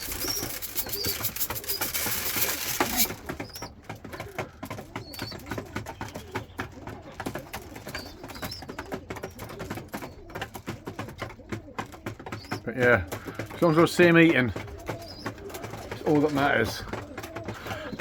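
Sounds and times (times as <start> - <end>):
high squeaks from young birds: 0.0 - 6.7, 7.3 - 10.5, 12.2 - 18.0
pigeons cooing: 0.0 - 18.0
small clicks and taps: 0.0 - 18.0.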